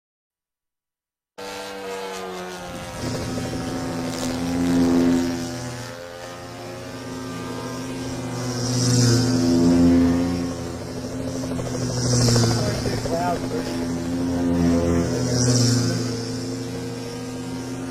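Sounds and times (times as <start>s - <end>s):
model aircraft engine running: 1.4s - 17.9s.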